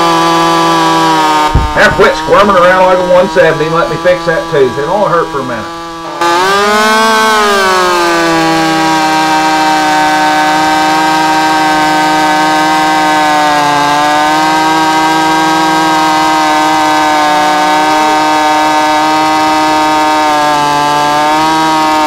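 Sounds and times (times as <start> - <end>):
chainsaw cutting through log: 0.0 - 22.0.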